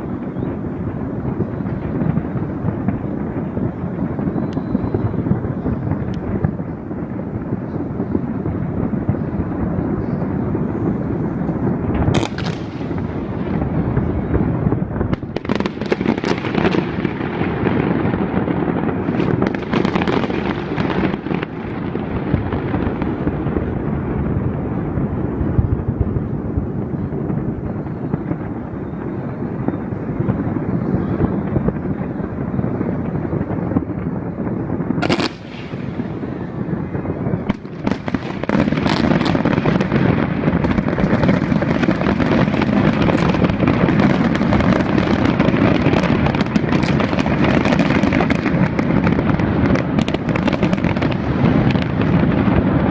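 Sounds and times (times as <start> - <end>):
fireworks crackling and banging: 0.0 - 52.9.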